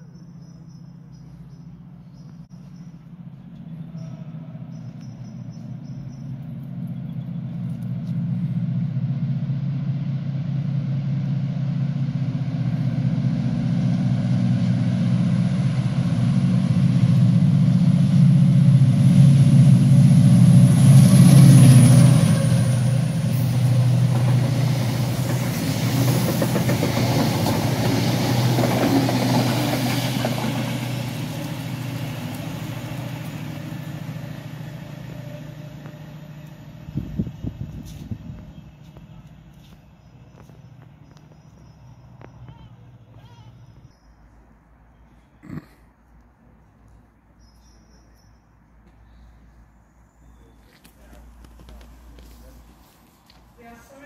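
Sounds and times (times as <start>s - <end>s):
wheels rumbling on rails: 0.0s - 45.3s, 46.1s - 54.0s
diesel locomotive drone: 0.0s - 54.0s.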